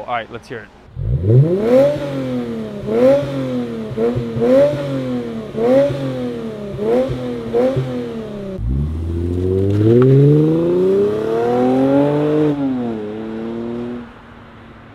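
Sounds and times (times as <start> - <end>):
car accelerating at full throttle: 0.9 - 14.9
car engine revving: 0.9 - 14.9.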